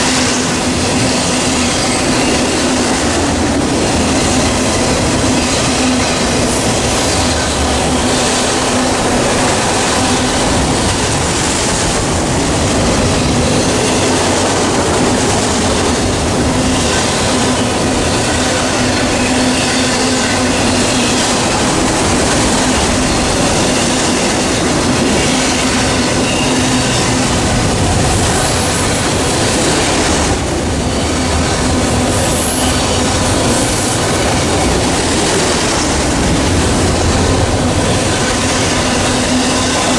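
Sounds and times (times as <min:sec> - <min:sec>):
train passing: 0:00.0 - 0:39.9.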